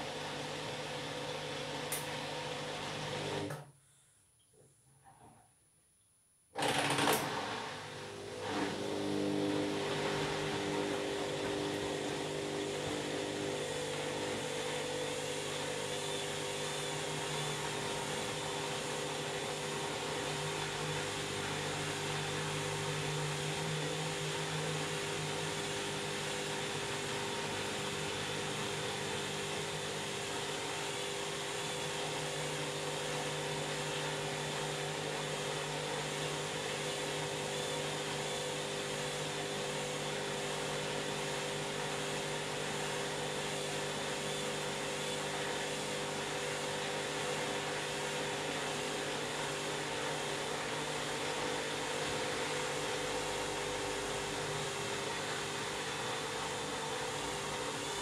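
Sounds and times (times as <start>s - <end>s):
washing machine spinning: 6.6s - 58.0s.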